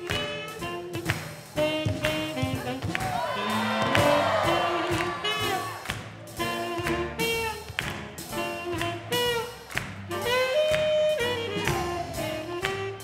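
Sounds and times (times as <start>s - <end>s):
swing jazz band playing: 0.0s - 13.0s.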